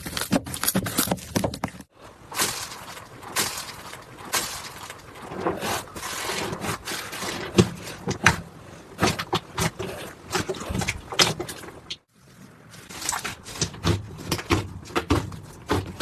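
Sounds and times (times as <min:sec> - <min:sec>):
wet squishing of slime: 0:00.0 - 0:16.0.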